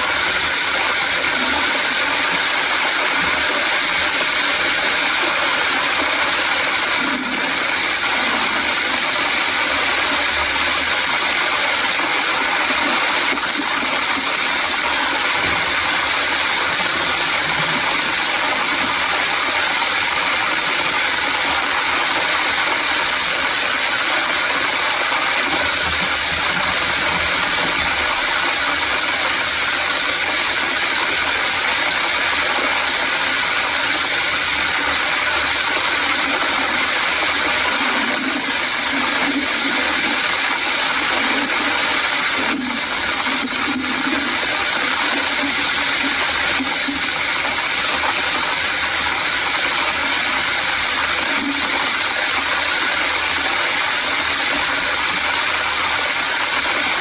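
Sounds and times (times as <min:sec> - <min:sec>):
heavy rain on vehicle roof: 0:00.0 - 0:57.0.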